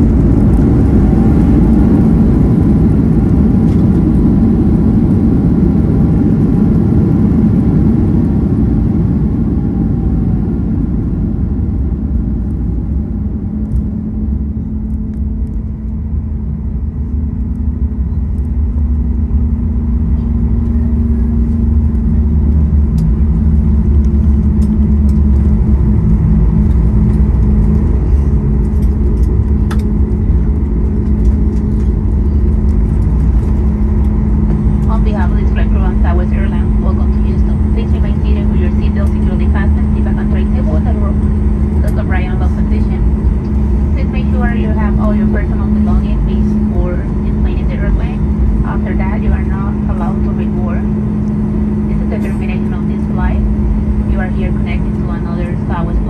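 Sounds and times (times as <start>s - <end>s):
aircraft cabin rumble while taxiing: 0.0s - 56.0s.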